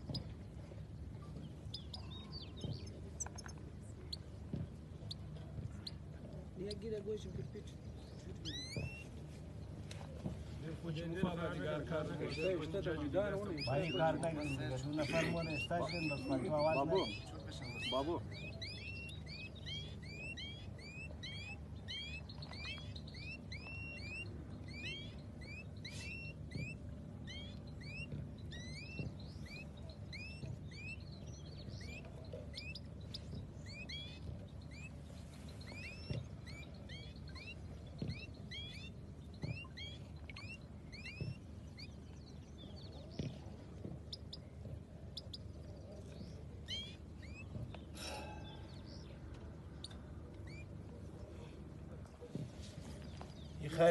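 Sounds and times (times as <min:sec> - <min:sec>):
finches chirping: 0:01.2 - 0:04.3, 0:07.9 - 0:09.1, 0:11.8 - 0:51.4.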